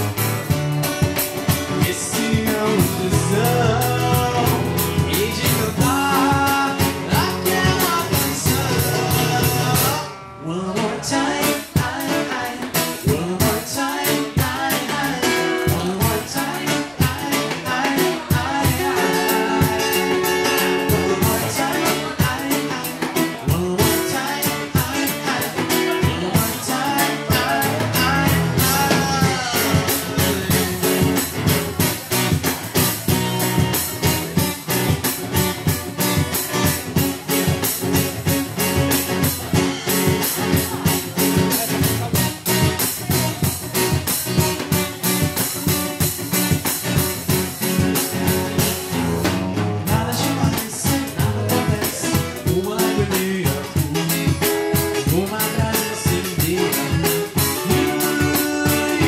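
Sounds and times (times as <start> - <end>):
steady beat: 0.0 - 10.0, 11.5 - 59.0
strummed acoustic guitars: 0.0 - 59.0
person singing: 0.8 - 59.0.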